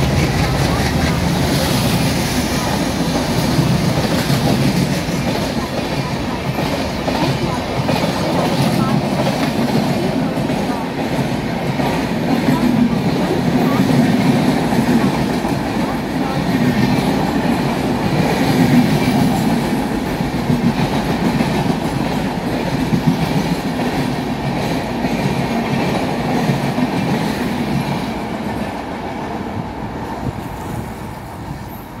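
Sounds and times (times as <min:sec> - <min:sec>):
wheels clattering on rails: 0:00.0 - 0:28.8
train passing at speed: 0:00.0 - 0:32.0.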